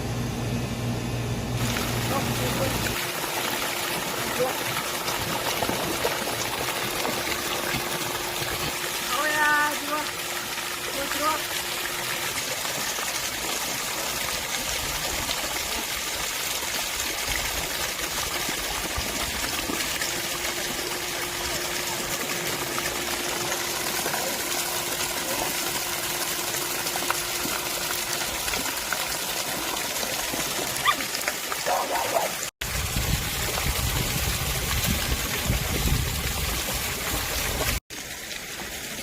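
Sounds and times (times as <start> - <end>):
water rushing: 1.6 - 39.0.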